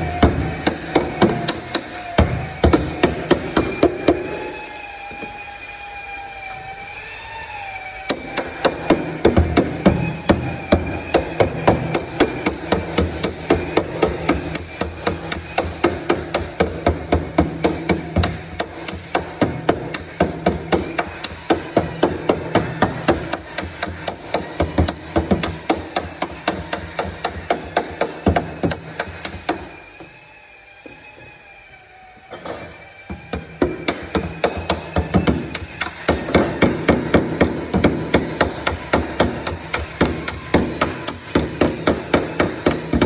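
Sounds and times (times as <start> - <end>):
hammer beating sheet metal: 0.0 - 4.3, 8.1 - 29.8, 33.1 - 43.0.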